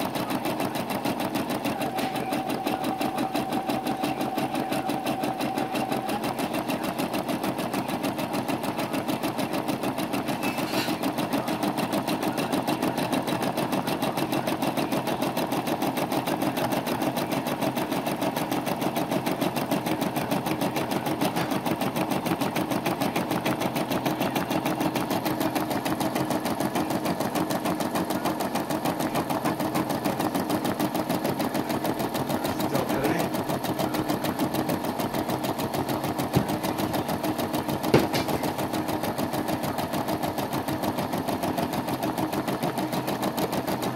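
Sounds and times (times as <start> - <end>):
embroidery machine stitching: 0.0 - 43.9.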